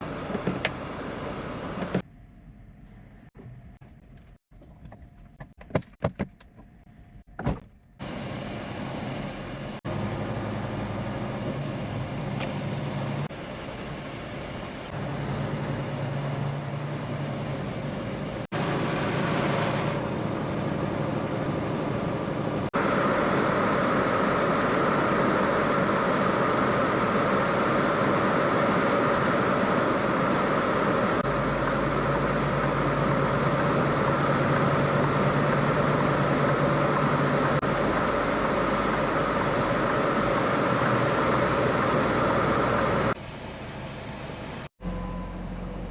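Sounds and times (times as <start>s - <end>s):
truck engine drone: 0.0s - 5.4s, 6.6s - 45.9s
road and wind noise: 0.0s - 45.9s.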